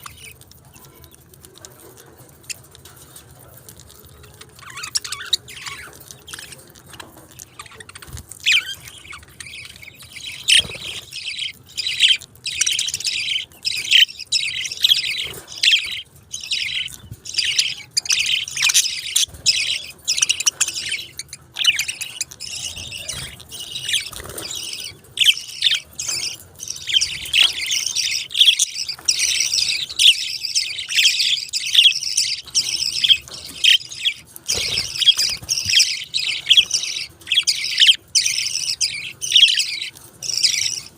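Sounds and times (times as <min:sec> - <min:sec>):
budgerigars chirping: 0:00.0 - 0:01.3, 0:04.1 - 0:40.9.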